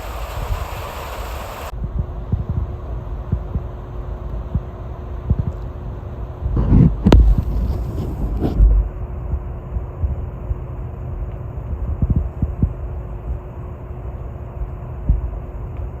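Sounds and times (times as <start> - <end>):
wind gusting against microphone: 0.0 - 13.8
faint steady hum: 0.0 - 16.0.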